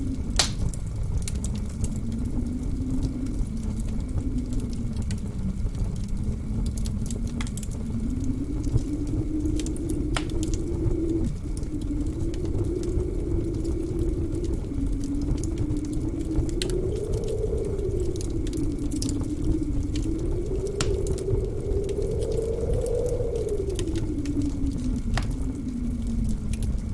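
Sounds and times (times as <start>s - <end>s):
blizzard wind howling: 0.0s - 26.9s
wood fire crackling: 0.0s - 26.9s.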